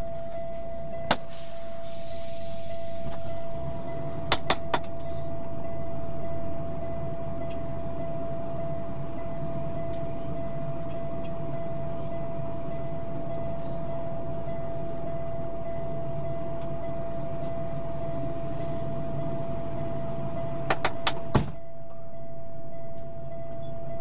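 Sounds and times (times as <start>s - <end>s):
high whine: 0.0s - 24.0s.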